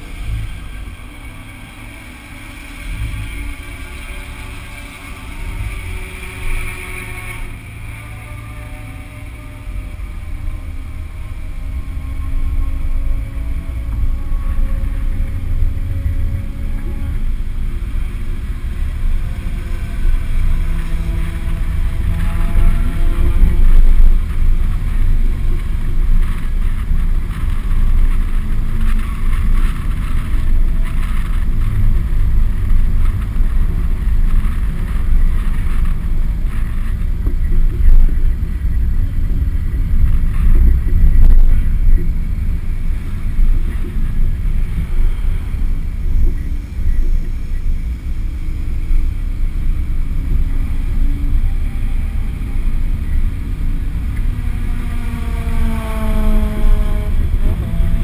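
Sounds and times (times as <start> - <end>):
car engine at low speed: 0.0 - 58.0
wind rumble on microphone: 0.0 - 58.0.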